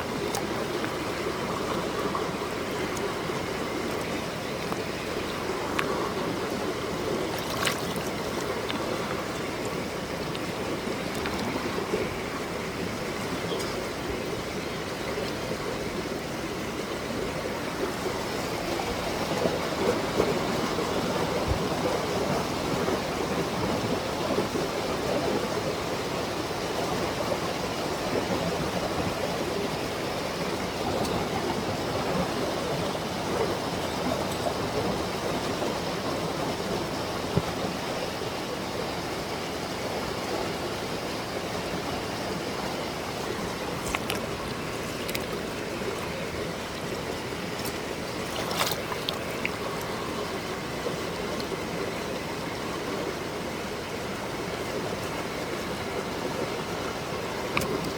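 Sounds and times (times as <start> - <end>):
creek water rushing over rocks: 0.0 - 57.9.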